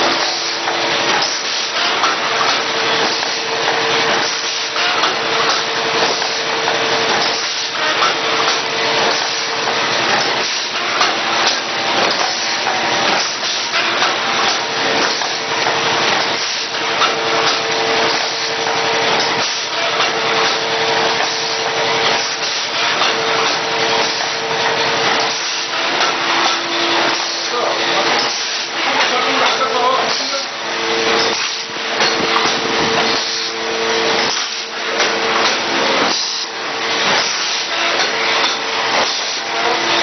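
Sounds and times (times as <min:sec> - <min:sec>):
machine hum: 0:00.0 - 0:40.0
pneumatic machine clattering: 0:00.0 - 0:40.0.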